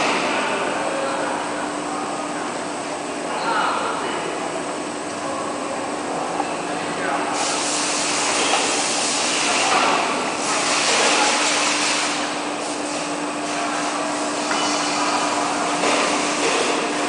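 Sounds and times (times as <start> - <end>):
machinery low hum: 0.0 - 17.0.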